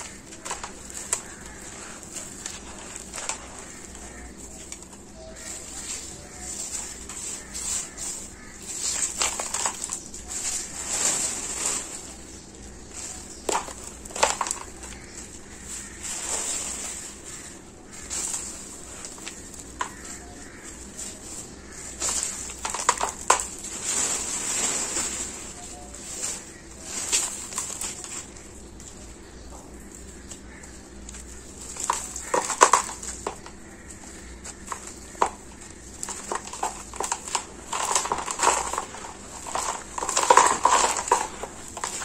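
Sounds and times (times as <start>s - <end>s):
gritty sand crunching and pattering: 0.0s - 42.0s
lumps cracking: 0.0s - 42.0s.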